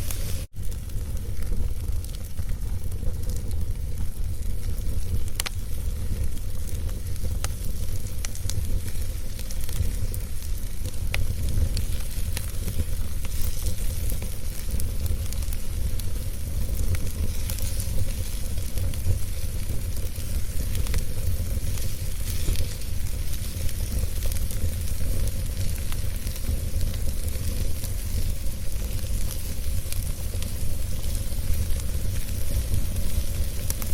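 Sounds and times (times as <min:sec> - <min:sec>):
logs crackling and popping: 0:00.0 - 0:33.9
wood fire burning: 0:00.0 - 0:33.9.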